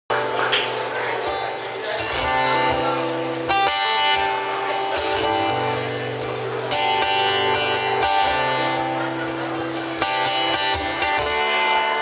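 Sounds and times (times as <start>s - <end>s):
acoustic guitars strumming: 0.1s - 12.0s.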